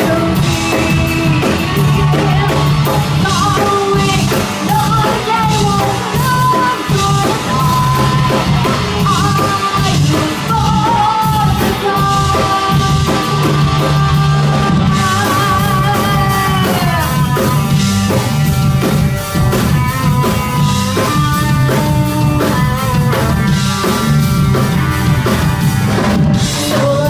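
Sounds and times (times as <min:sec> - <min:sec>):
live rock band playing: 0:00.0 - 0:27.0
steady drum beat: 0:00.0 - 0:27.0.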